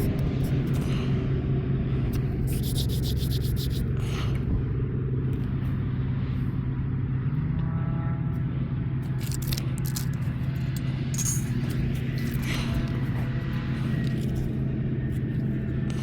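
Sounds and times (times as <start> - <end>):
small engine humming: 0.0 - 7.2, 9.0 - 16.0.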